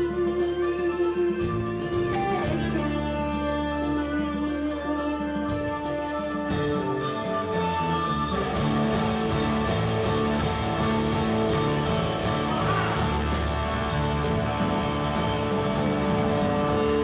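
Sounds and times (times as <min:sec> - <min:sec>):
drums: 0:00.0 - 0:17.0
electric bass: 0:00.0 - 0:17.0
electric guitar sustained notes: 0:00.0 - 0:17.0.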